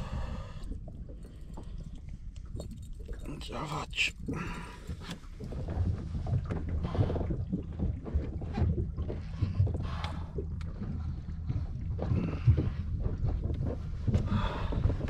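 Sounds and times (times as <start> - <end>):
water slapping boat hull: 0.0 - 15.0
wind rumble on microphone: 0.0 - 15.0.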